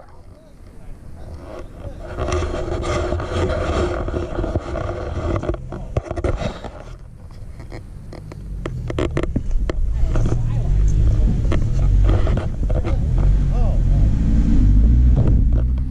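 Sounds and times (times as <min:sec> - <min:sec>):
camera brushing against clothing: 0:00.0 - 0:13.4
off-road vehicle engine: 0:00.0 - 0:15.9.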